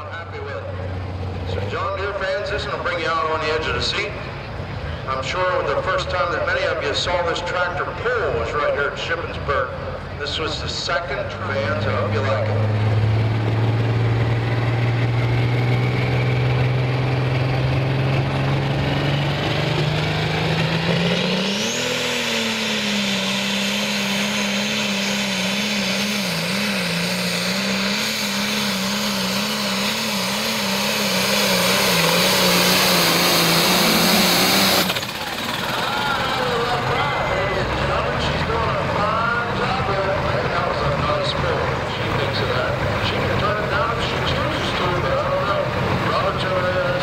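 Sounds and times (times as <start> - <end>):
tractor engine at full throttle: 0.0 - 47.0
high rising whine: 9.1 - 47.0.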